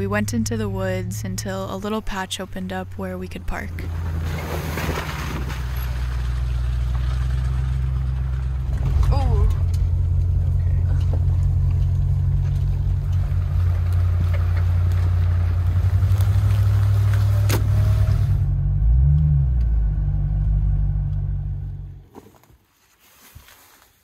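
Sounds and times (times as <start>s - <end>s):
car engine running: 0.0s - 22.1s.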